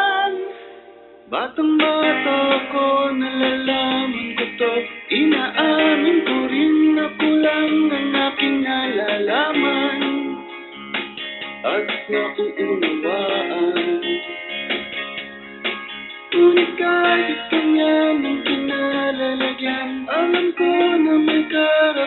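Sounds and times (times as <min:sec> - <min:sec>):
plucked guitar: 0:00.0 - 0:22.0.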